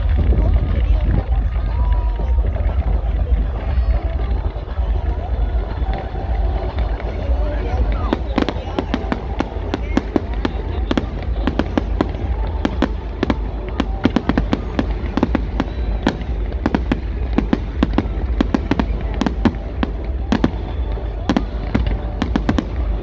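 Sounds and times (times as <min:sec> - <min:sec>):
low rumble: 0:00.0 - 0:23.0
fireworks cracking and banging: 0:04.3 - 0:23.0.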